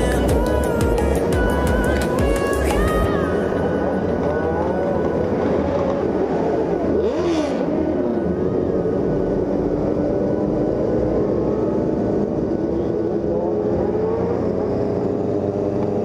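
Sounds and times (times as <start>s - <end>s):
motorcycle engine revving: 0.0s - 16.0s
motorcycle engines running: 0.0s - 16.0s.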